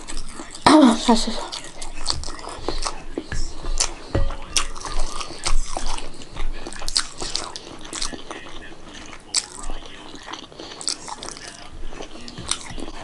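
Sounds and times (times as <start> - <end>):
mouth smacks and clicks: 0.0 - 13.0
wet chewing: 0.0 - 13.0.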